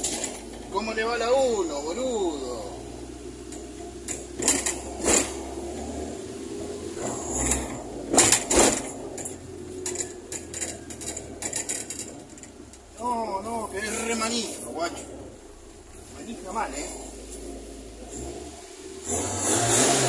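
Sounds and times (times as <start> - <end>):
car engine running at low speed: 0.0 - 20.0.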